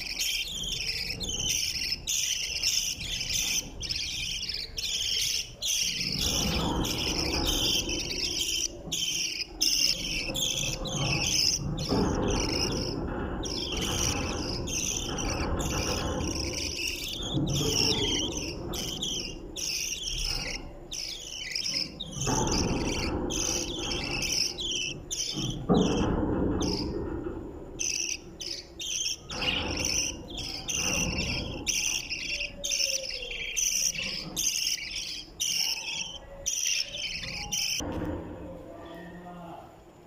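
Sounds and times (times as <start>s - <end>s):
budgerigars chirping: 0.0s - 27.2s, 27.8s - 37.9s.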